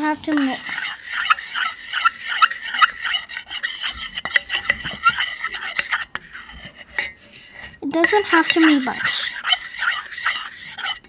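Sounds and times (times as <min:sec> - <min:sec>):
plastic spoon scraping metal bowl: 0:00.0 - 0:11.0.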